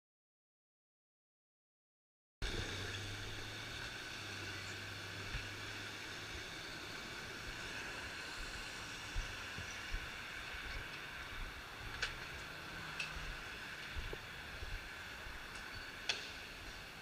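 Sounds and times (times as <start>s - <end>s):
low hum: 2.4s - 17.0s
street and vehicle noise: 2.4s - 17.0s.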